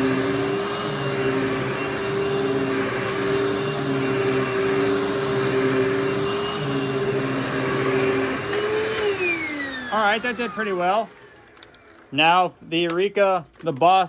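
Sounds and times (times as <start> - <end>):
vacuum cleaner motor whine: 0.0 - 12.5.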